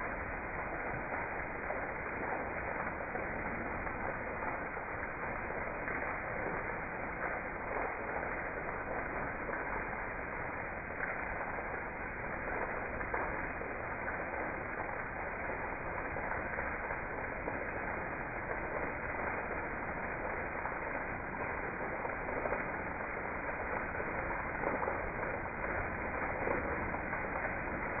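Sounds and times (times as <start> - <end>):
heavy rain splashing into water: 0.0 - 28.0.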